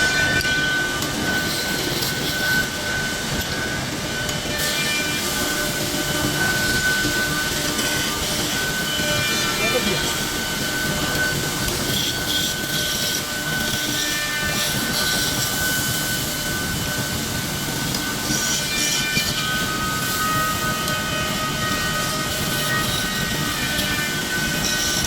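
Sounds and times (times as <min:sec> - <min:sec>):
woodworking machine whining: 0:00.0 - 0:25.0.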